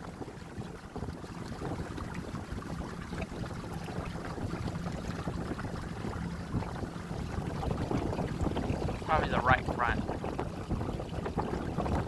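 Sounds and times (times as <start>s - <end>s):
rushing water: 0.0s - 12.0s
wind on microphone: 0.0s - 12.0s.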